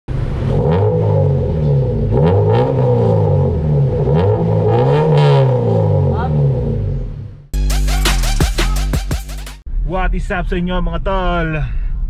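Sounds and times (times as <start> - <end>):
car engine revving: 0.1 - 10.0.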